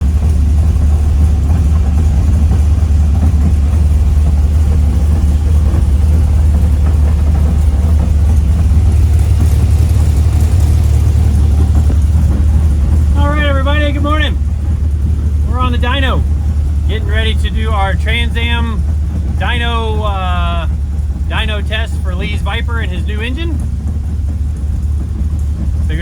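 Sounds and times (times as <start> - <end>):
race car engine idling: 0.0 - 26.0.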